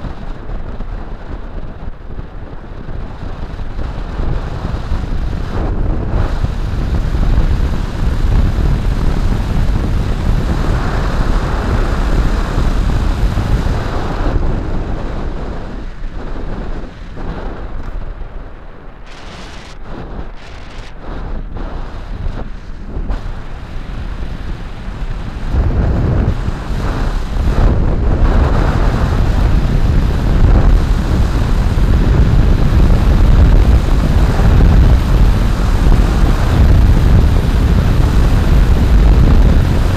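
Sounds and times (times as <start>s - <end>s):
tyre road noise: 0.0s - 39.9s
wind rushing over microphone: 0.0s - 39.9s.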